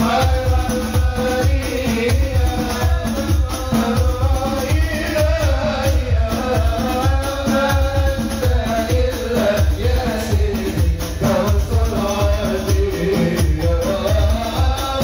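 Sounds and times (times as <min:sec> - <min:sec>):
frame drums beating: 0:00.0 - 0:15.0
men singing in unison: 0:00.0 - 0:15.0.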